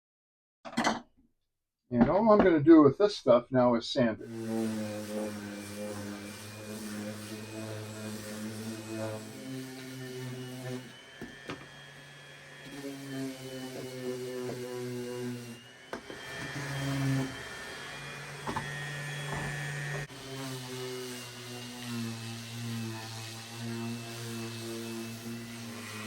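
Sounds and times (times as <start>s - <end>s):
power sander on wood: 4.2s - 26.0s.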